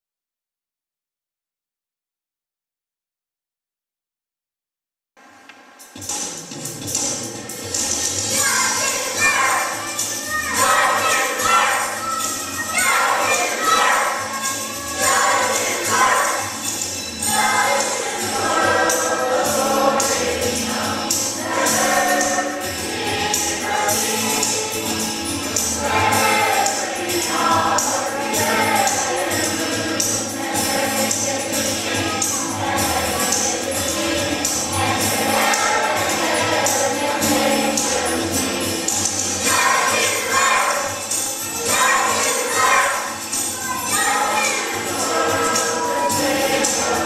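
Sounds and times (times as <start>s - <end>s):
percussion hits: 5.3s - 47.0s
instrumental accompaniment: 5.8s - 47.0s
choir singing gospel song: 7.5s - 47.0s.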